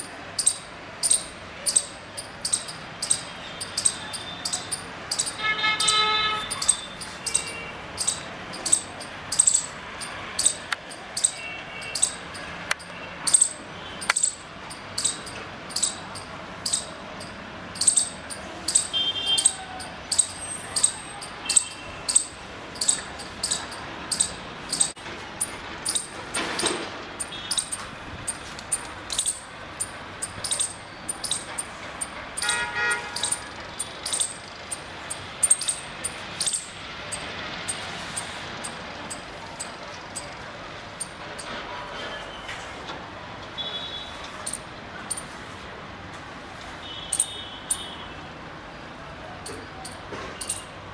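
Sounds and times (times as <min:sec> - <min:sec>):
squirrel chirping: 0:00.0 - 0:41.5, 0:44.4 - 0:45.4, 0:46.9 - 0:48.0, 0:49.4 - 0:50.8.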